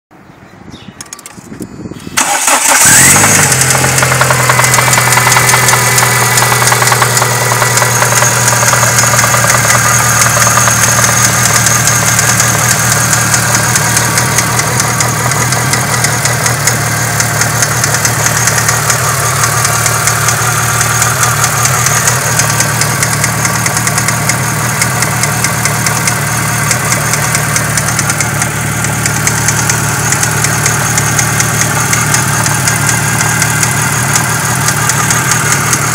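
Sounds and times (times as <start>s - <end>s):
car engine idling with knock: 3.0s - 35.9s.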